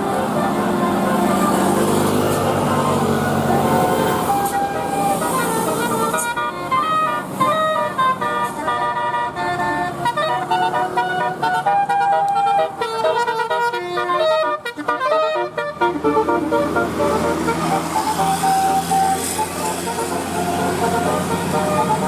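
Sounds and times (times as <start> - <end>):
musical air horn melody: 0.0 - 22.0.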